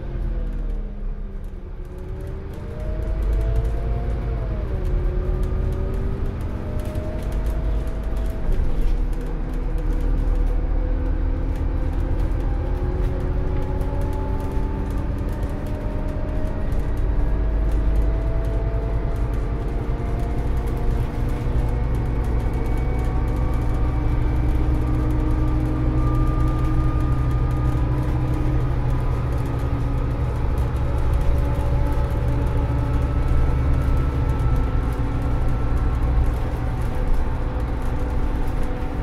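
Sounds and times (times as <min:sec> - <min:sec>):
bus diesel engine: 0:00.0 - 0:39.0.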